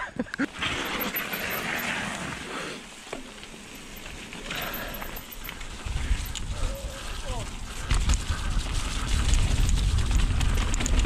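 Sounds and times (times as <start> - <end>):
bike tyres hissing on wet trail: 0.4 - 11.0.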